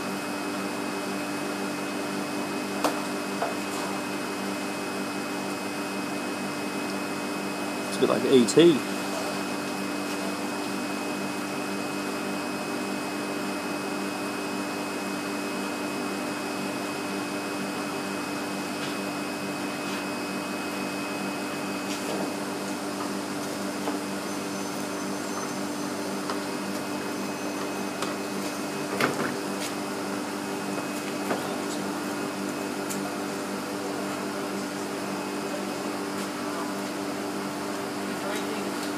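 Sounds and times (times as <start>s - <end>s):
aquarium pumps humming: 0.0s - 38.9s.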